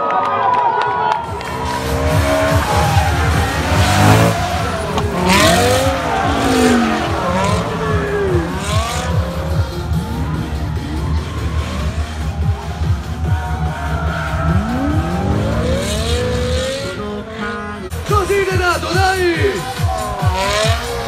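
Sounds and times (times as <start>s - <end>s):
car engines revving: 1.1s - 21.0s.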